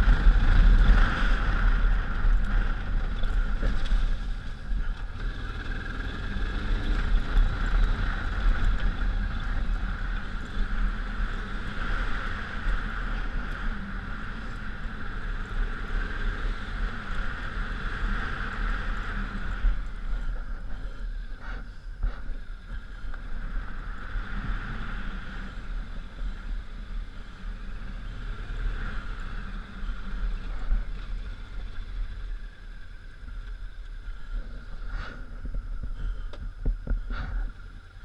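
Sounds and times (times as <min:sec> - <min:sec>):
motorcycle engine running: 0:00.0 - 0:34.9
wind rumble on microphone: 0:00.0 - 0:38.0.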